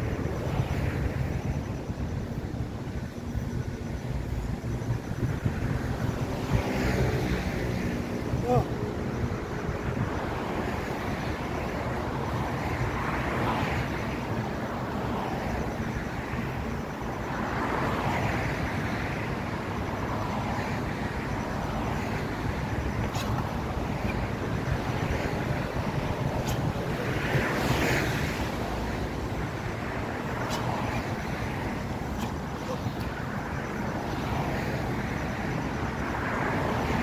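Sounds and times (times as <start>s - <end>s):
road traffic passing: 0.0s - 37.0s.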